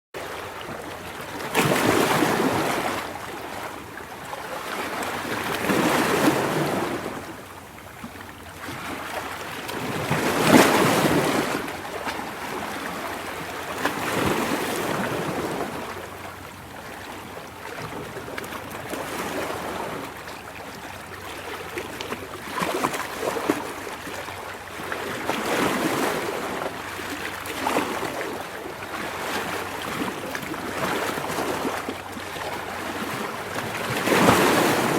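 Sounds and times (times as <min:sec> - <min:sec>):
waves breaking: 0:00.2 - 0:34.9.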